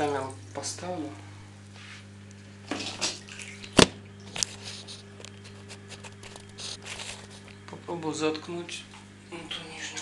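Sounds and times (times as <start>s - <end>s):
water pump humming: 0.0s - 10.0s.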